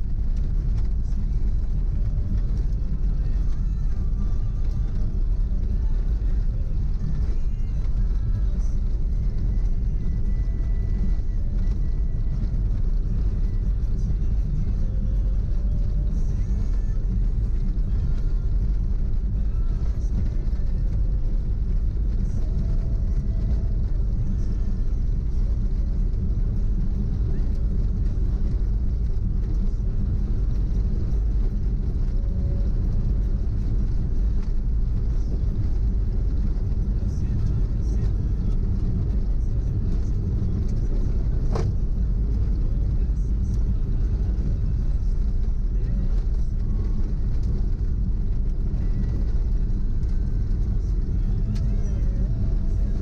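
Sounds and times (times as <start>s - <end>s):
car engine and road noise: 0.0s - 53.0s
music playing: 0.0s - 53.0s.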